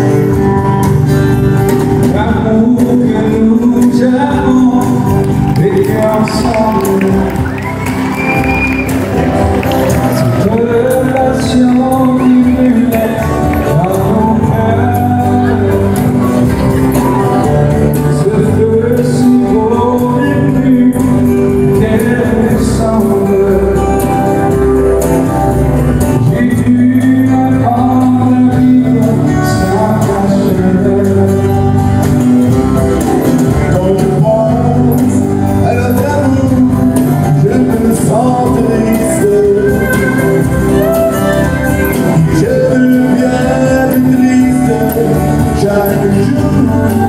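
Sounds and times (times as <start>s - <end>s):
acoustic guitars strumming: 0.0s - 47.0s
man singing: 0.0s - 47.0s.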